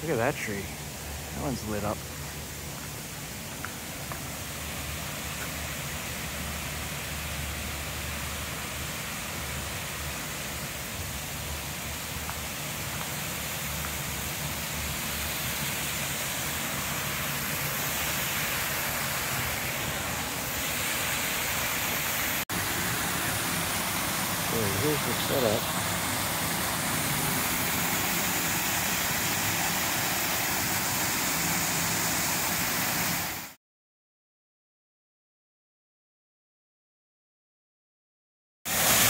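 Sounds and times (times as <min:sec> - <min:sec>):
waterfall rushing: 0:00.0 - 0:33.6, 0:38.7 - 0:39.0.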